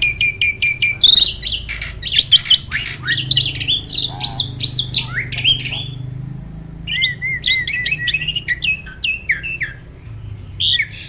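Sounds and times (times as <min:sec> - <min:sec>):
repeated bird chirps: 0:00.0 - 0:06.2, 0:06.9 - 0:10.0
starling singing whistled phrases: 0:00.0 - 0:11.0.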